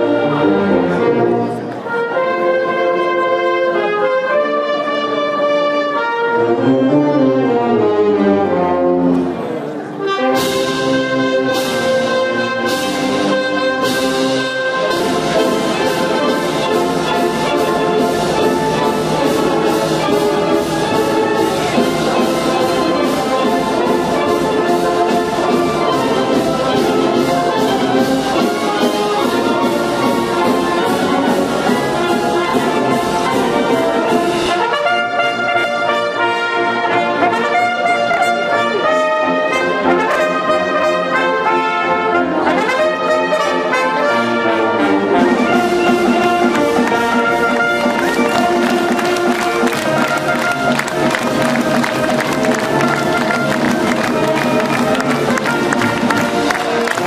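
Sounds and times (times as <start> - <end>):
wind band playing: 0.0 - 57.0.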